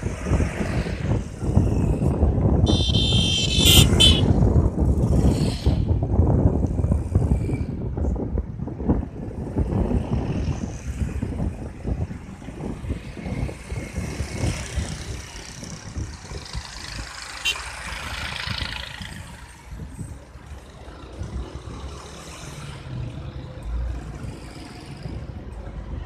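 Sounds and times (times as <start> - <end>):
road traffic noise: 0.0 - 26.0
wind rumbling on microphone: 0.0 - 26.0.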